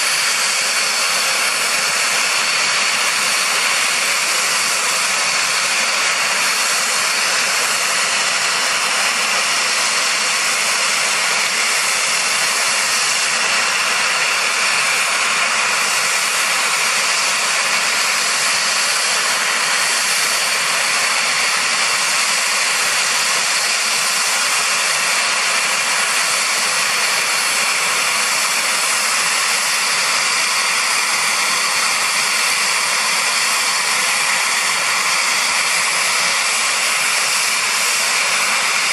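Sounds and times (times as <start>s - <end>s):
helicopter turbine whine: 0.0s - 38.9s.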